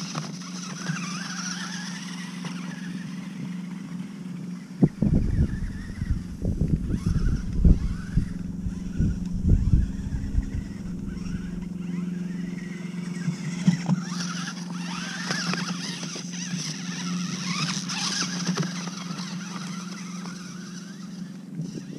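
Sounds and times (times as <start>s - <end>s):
rc car motor whining: 0.0s - 21.9s
steady low hum: 0.0s - 21.9s.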